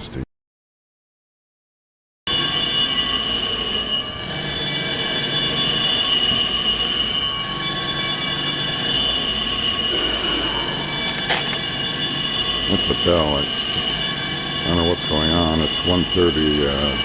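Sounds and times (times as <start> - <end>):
fire alarm bell ringing: 2.3 - 17.0.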